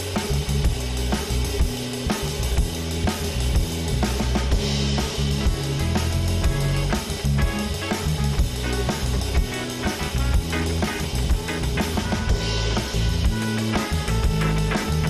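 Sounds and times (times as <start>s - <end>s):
bass line: 0.0s - 15.0s
drum kit steady beat: 0.0s - 15.0s
guitar: 0.9s - 15.0s.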